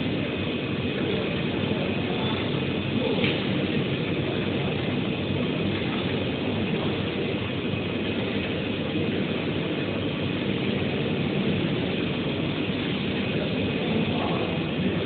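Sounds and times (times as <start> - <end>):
printer mechanical whir: 0.0 - 15.0.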